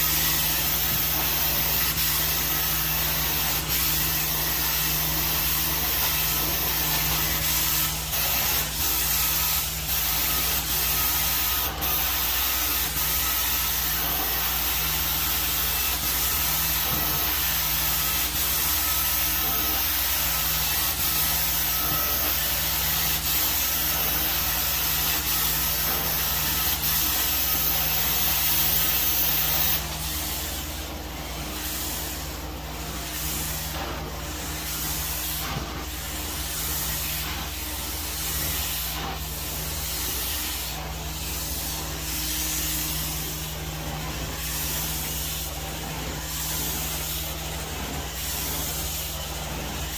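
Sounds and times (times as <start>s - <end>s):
carpet cleaner suction and spray: 0.0s - 49.9s.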